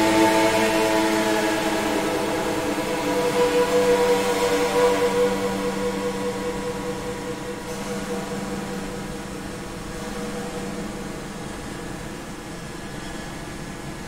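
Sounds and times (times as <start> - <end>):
sustained low droning tones: 0.0 - 12.9
noisy hiss: 0.0 - 14.0.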